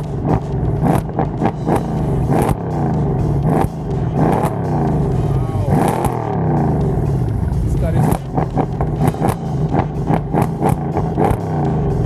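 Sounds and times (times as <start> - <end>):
car engine revving in blips: 0.0 - 12.0.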